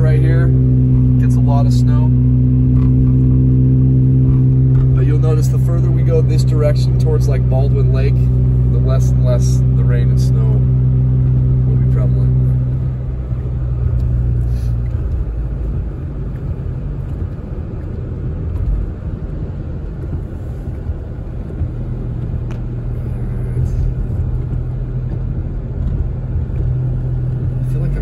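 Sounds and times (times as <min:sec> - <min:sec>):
car engine and tyres on wet road: 0:00.0 - 0:28.0.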